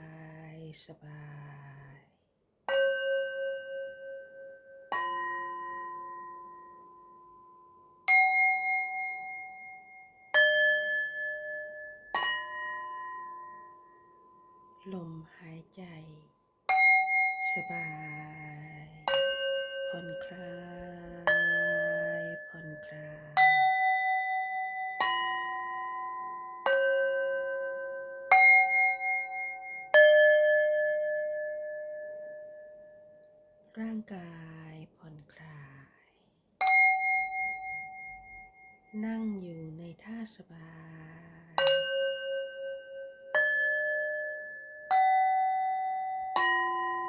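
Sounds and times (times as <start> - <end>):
faint steady ringing tone: 0.0 - 35.9, 36.6 - 47.0.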